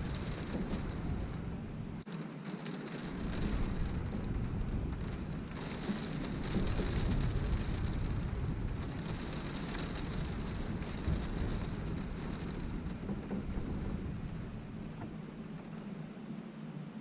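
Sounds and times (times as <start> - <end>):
deep low rumble: 0.0 - 2.0, 3.2 - 15.2
rain beating on a window: 0.0 - 17.0.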